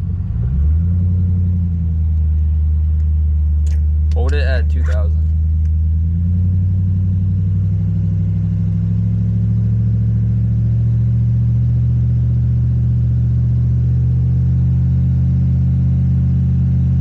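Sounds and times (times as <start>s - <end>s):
car engine running steadily: 0.0s - 17.0s.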